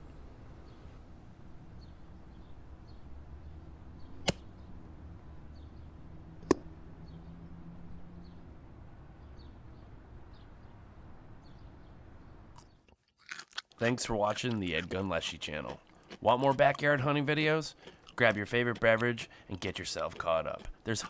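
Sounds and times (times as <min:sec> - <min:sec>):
low outdoor hum: 0:00.0 - 0:13.0, 0:13.7 - 0:21.0.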